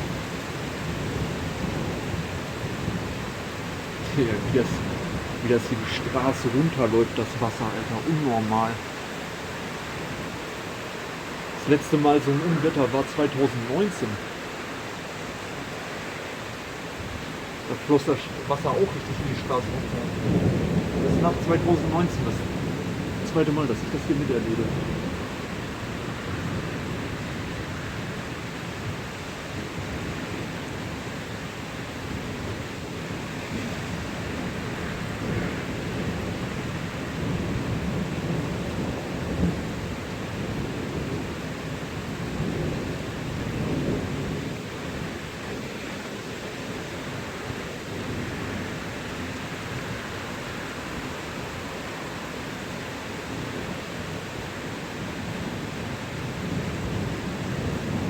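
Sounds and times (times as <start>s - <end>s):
thunder rumbling: 0.0s - 16.1s, 16.9s - 31.2s, 32.0s - 52.2s
steady rain: 0.0s - 58.0s.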